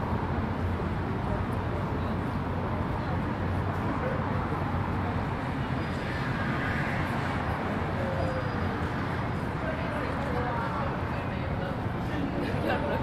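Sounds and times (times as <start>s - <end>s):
chatter of passers-by: 0.0s - 13.0s
road traffic rumble: 0.0s - 13.0s.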